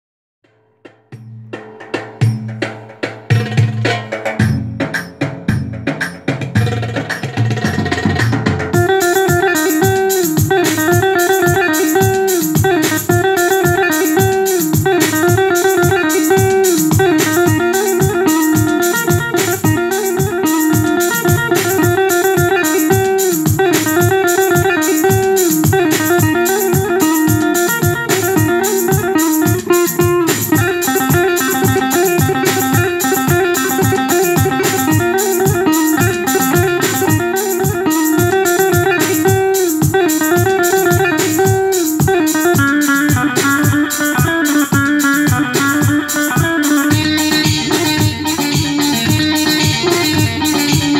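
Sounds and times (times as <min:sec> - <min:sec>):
steady rhythm accompaniment: 0:00.9 - 0:50.9
plucked-string keyboard melody: 0:03.8 - 0:50.9.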